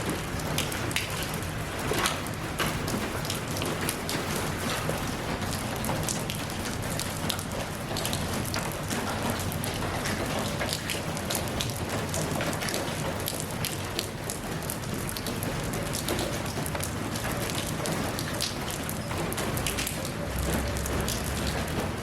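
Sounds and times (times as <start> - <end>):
rain drops pattering: 0.0 - 22.0.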